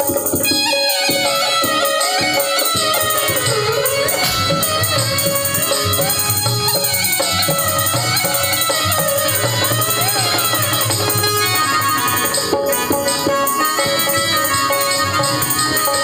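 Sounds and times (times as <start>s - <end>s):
percussion beat: 0.0s - 16.0s.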